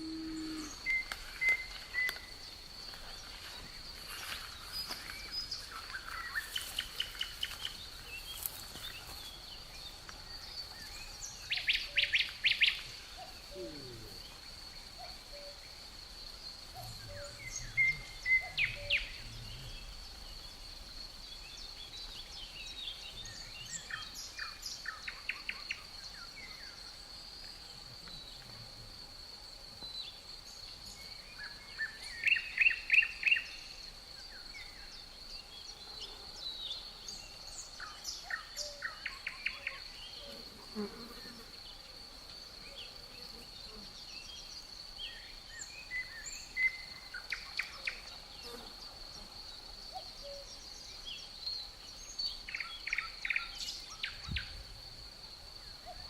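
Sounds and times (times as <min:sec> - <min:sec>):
high thin insect drone: 0:00.0 - 0:56.0.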